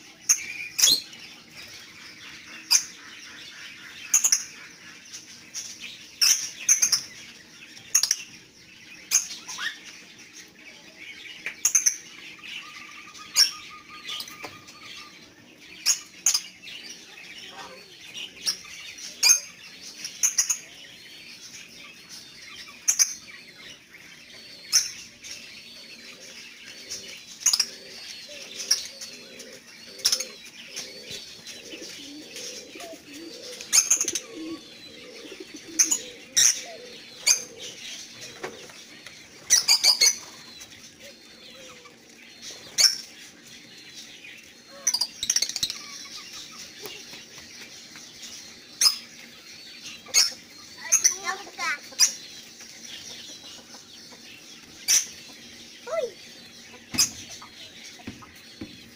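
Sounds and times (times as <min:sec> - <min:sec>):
lovebirds twittering: 0:00.0 - 0:58.9.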